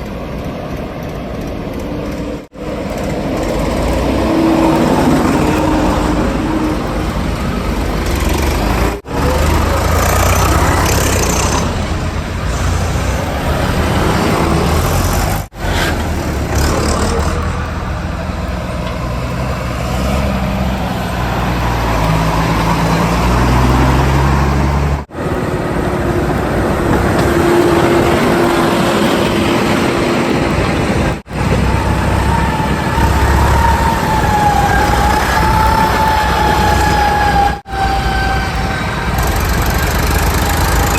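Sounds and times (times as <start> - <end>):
diesel engines rumbling: 0.0 - 40.9.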